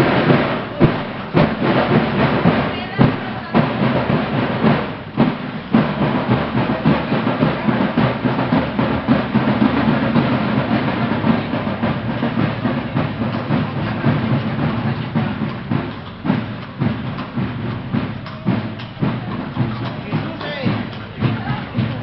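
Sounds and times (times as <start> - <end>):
hoofbeats on pavement: 0.0 - 22.0
street parade clatter: 0.0 - 22.0.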